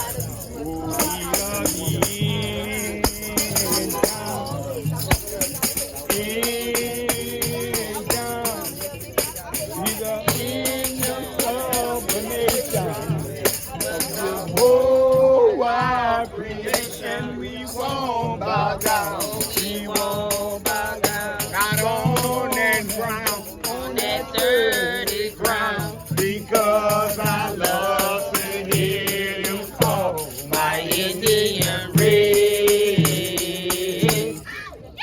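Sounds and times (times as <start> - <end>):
tambourines and shakers: 0.0 - 34.9
voices singing or chanting: 0.0 - 35.0.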